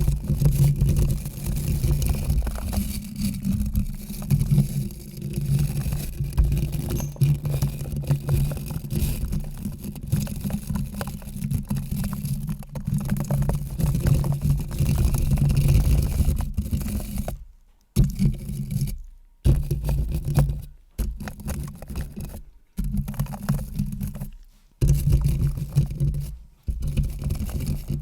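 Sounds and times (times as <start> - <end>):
close scratching and rubbing: 0.0 - 17.4, 19.7 - 28.0.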